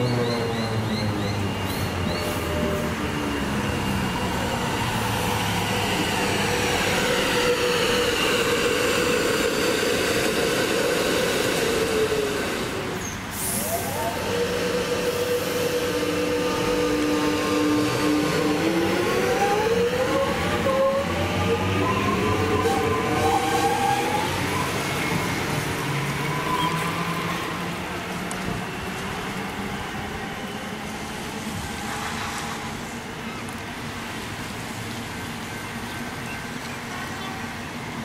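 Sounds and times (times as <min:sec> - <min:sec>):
electric train motors whining: 0:00.0 - 0:32.8.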